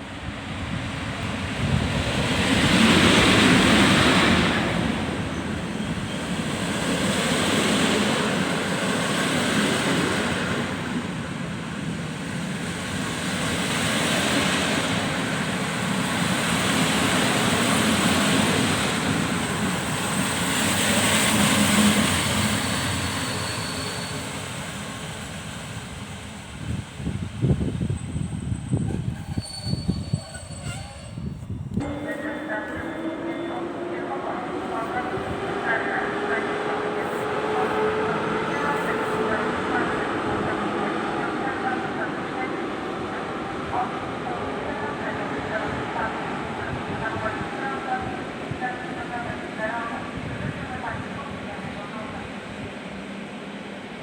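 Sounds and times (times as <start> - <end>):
train rushing past: 0.0 - 54.0.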